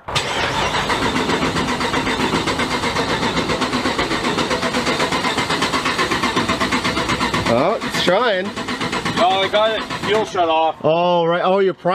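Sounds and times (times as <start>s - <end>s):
engine cranking by starter motor: 0.0s - 10.8s.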